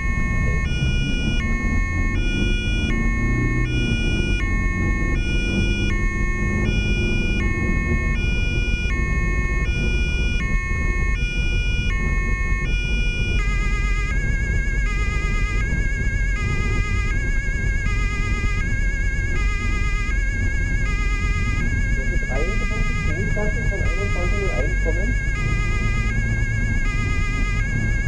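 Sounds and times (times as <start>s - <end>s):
engine and tyre rumble: 0.0s - 28.0s
two-tone police siren: 0.0s - 28.0s
warbling siren tone: 0.0s - 28.0s.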